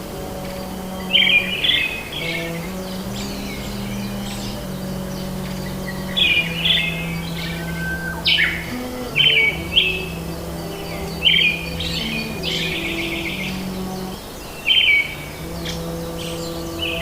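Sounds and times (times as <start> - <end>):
low held tones: 0.0 - 14.4, 15.0 - 17.0
birds chirping: 0.0 - 17.0.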